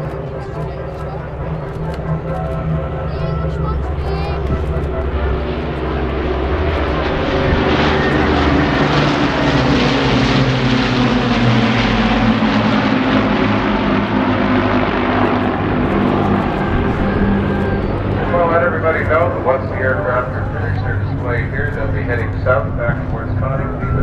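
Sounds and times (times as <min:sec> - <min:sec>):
propeller planes droning past: 0:00.0 - 0:24.0.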